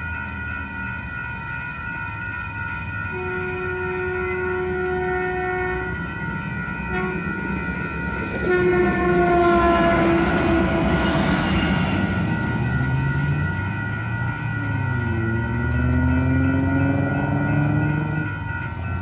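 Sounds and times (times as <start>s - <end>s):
railcar passing rumble: 0.0s - 19.0s
railroad crossing bells ringing: 0.0s - 19.0s
train horn blasts: 3.1s - 18.7s.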